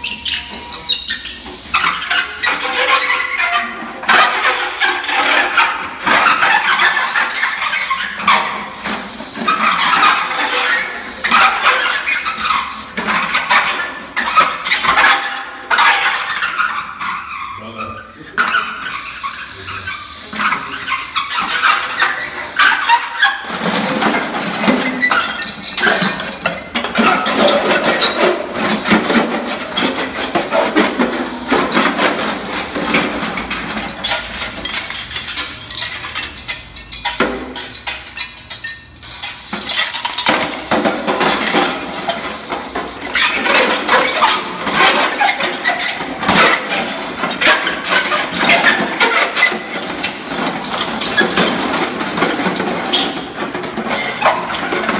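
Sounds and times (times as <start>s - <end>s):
objects scraping inside brass pot: 0.0s - 54.9s.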